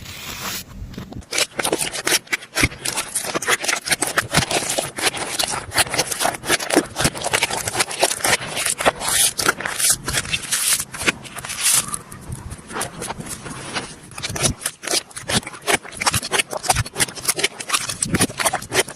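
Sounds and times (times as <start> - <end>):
slime squishing and popping: 1.2 - 18.9.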